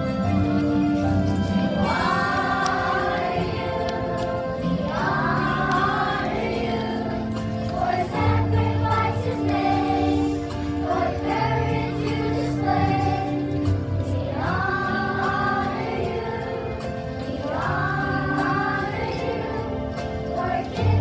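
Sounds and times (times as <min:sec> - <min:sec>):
choir singing held notes: 0:01.0 - 0:21.0.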